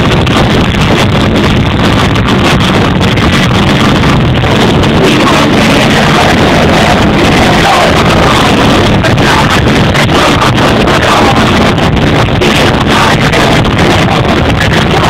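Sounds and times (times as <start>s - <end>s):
loud live concert music: 1.3s - 15.0s.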